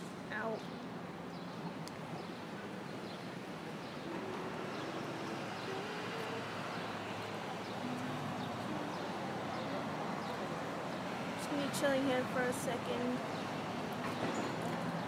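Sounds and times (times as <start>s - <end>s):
passing traffic: 0.0s - 15.0s.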